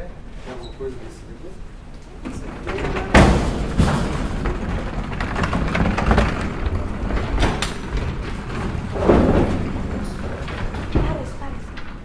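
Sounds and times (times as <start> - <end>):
metal clatter: 2.2 - 12.0
metal frame knocks and clanks: 2.2 - 12.0.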